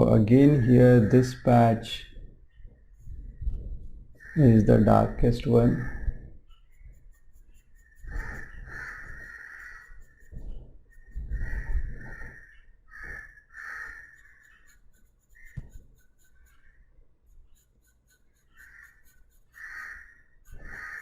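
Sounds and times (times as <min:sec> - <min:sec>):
pencil shading on paper: 0:02.0 - 0:21.0.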